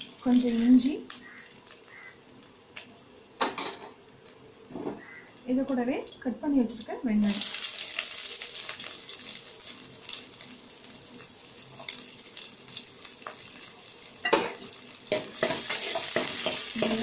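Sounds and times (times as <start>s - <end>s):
shallots sizzling in hot oil: 0.0s - 17.0s.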